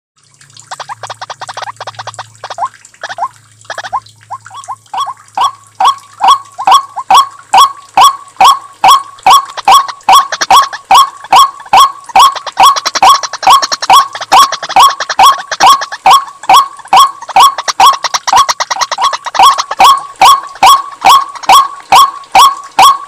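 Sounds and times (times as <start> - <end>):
waterhen sharp calls: 0.6 - 23.0.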